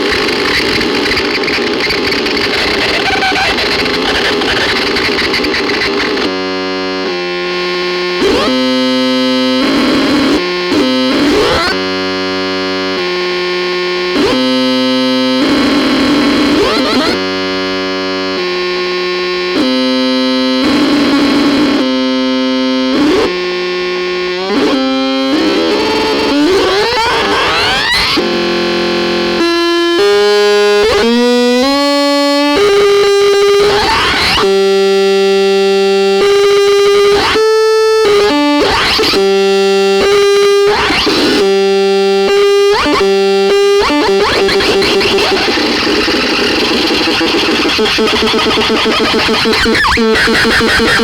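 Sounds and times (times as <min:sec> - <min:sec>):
harsh distorted synthesizer: 0:00.0 - 0:51.0.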